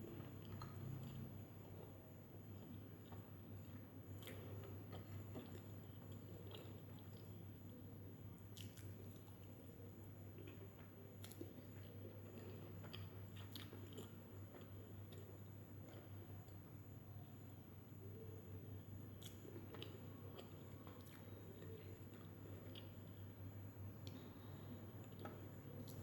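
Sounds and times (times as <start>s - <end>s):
chewing food: 0.0s - 26.0s
steady low hum: 0.0s - 26.0s.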